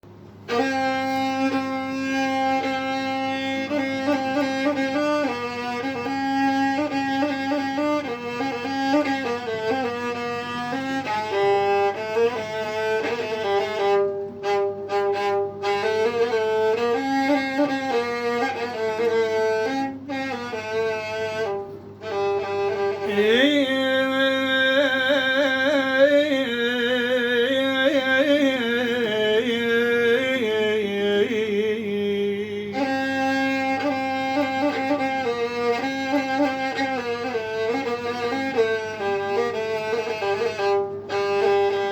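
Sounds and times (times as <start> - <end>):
violin-like melody over backing: 0.2 - 41.9.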